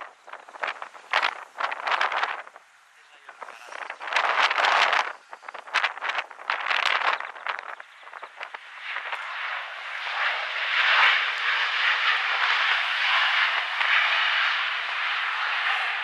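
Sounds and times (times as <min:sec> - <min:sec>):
jet airliner passing close: 0:00.0 - 0:16.0.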